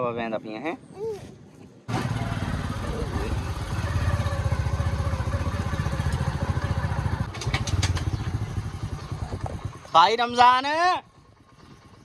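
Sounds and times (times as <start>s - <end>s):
motorcycle engine running: 1.9s - 12.0s
sharp rattles: 1.9s - 12.0s.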